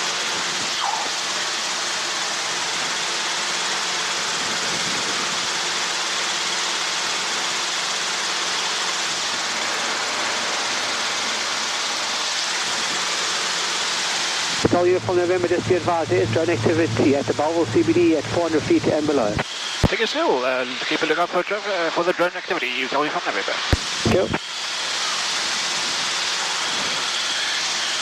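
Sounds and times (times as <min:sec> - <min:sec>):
faint engine and rotor tones: 0:00.0 - 0:28.0
helicopter cabin hiss: 0:00.0 - 0:28.0.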